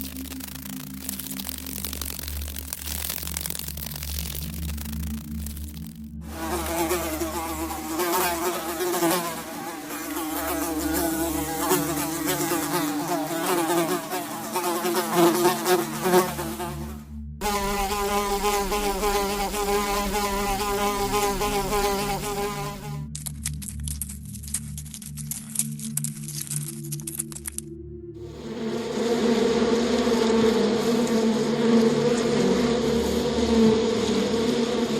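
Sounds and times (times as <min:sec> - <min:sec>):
flying insect buzzing: 0:00.0 - 0:23.7, 0:28.2 - 0:34.9.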